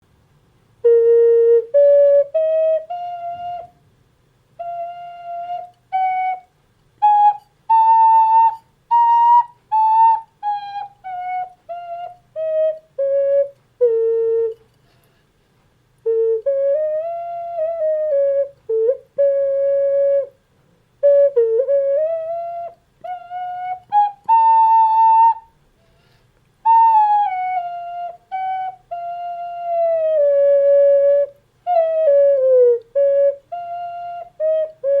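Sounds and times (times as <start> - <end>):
ocarina melody: 0.8 - 3.9, 4.5 - 15.2, 16.0 - 35.0.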